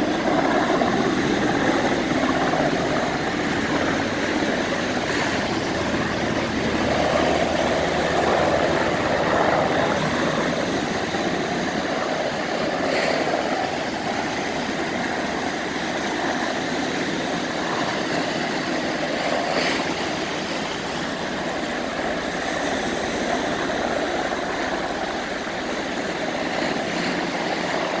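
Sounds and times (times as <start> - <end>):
helicopter flying low: 0.0 - 28.0.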